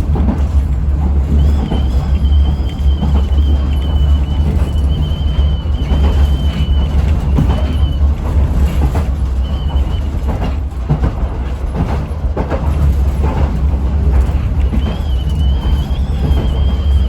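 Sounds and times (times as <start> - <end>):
train low rumble: 0.0 - 17.0
wheels clicking over rail joints: 0.0 - 17.0.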